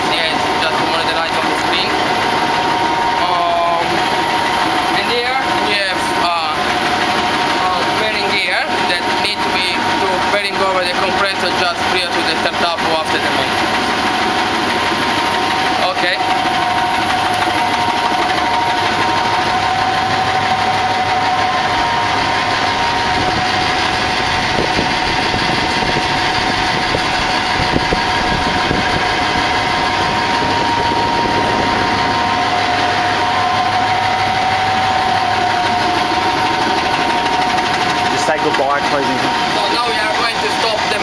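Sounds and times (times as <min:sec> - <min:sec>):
gas compressor machinery din: 0:00.0 - 0:41.0
high whining tones: 0:00.0 - 0:41.0.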